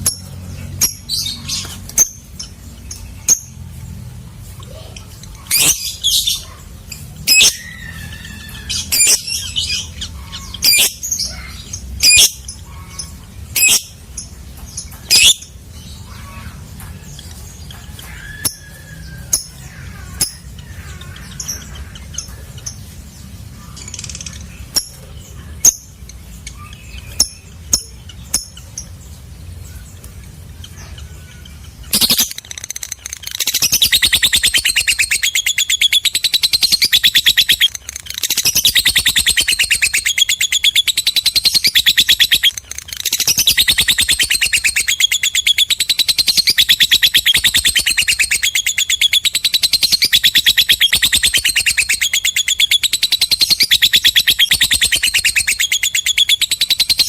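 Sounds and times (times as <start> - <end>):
bird chirping: 0.0 - 57.0
bird chattering trill: 4.5 - 29.3, 30.4 - 57.0.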